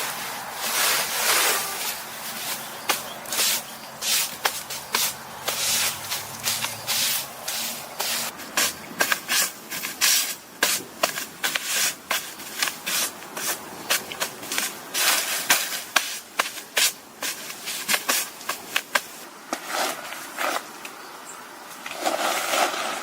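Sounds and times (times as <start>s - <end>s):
rustling and scraping strokes: 0.0s - 20.9s, 21.7s - 23.0s.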